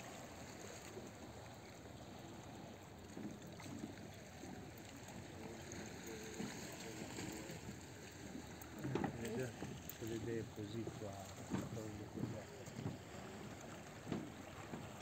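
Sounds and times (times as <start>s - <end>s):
small waves lapping at shore: 0.0s - 15.0s.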